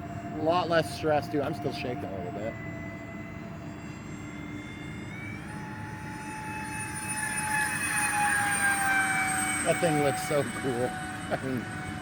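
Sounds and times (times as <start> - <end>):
model airplane fans whining: 0.0 - 12.0.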